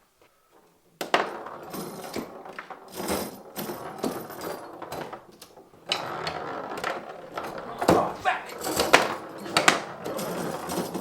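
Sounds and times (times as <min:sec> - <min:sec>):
foosball table clatter: 0:00.6 - 0:11.0.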